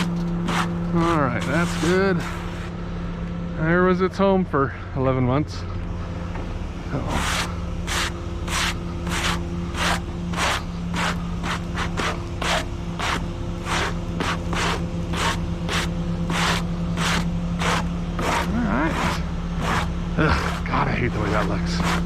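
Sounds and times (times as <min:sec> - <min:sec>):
stiff broom sweeping: 0:00.0 - 0:02.7, 0:07.0 - 0:22.0
engine idling: 0:00.0 - 0:22.0.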